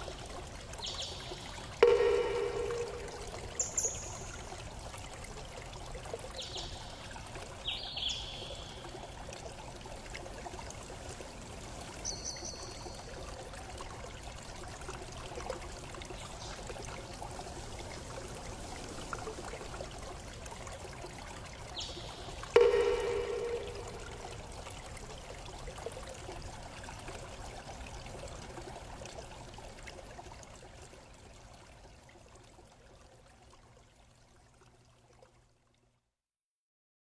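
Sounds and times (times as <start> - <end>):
trickling water: 0.0 - 36.1.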